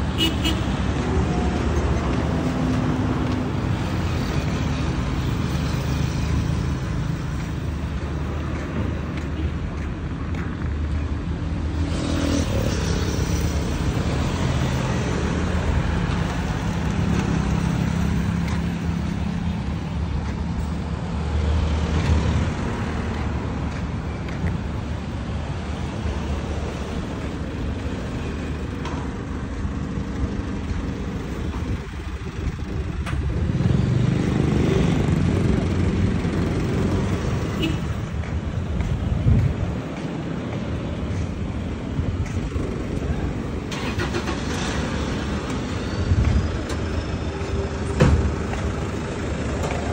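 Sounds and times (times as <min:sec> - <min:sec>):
cars driving past: 0:00.0 - 0:49.9.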